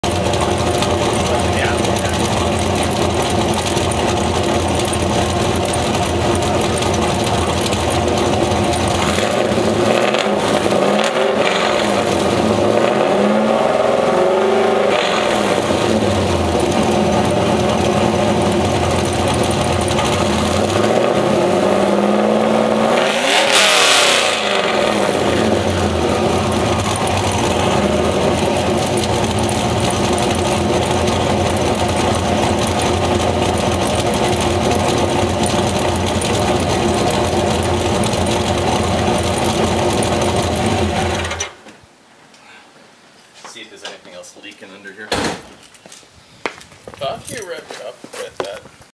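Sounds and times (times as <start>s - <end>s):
car engine idling and revving: 0.0s - 41.5s.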